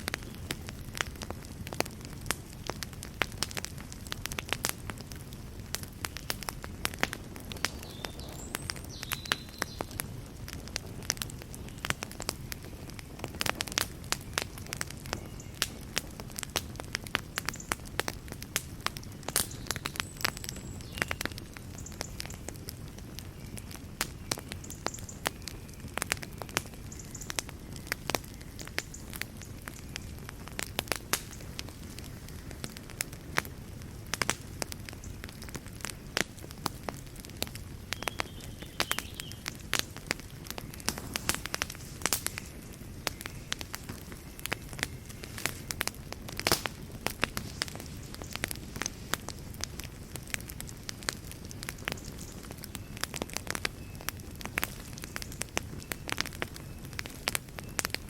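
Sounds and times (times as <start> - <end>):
burning wood crackling and popping: 0.0 - 58.0
fire flames rumbling: 0.0 - 58.0.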